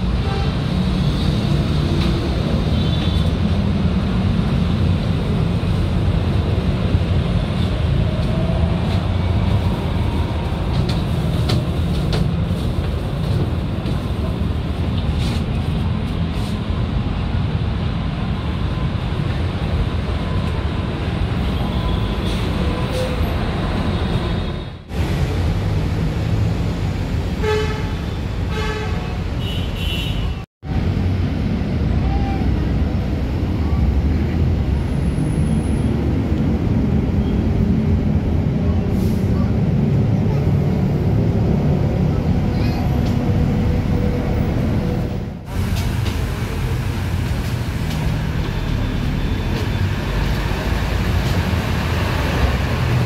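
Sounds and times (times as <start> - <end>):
bus and car engines rumbling: 0.0 - 53.0.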